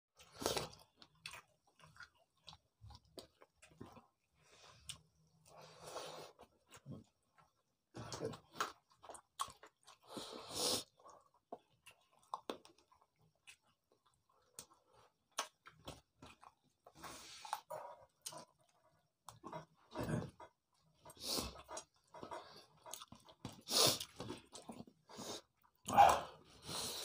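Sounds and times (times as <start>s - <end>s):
wet chewing with mouth clicks: 0.2s - 27.0s.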